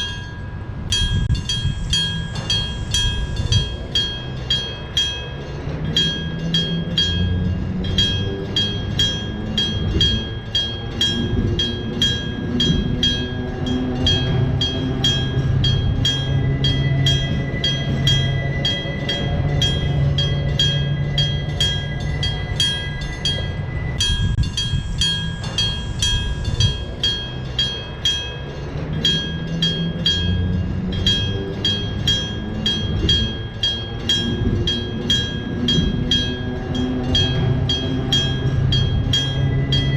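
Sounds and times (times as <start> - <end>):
level crossing bell ringing: 0.0 - 39.9.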